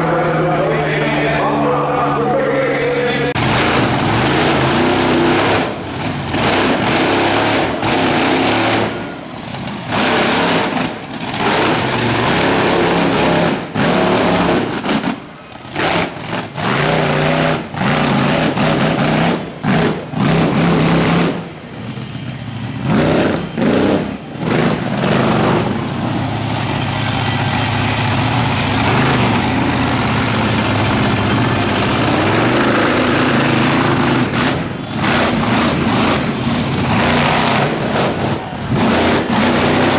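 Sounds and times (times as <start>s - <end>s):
monster truck engine revving: 0.0s - 39.9s.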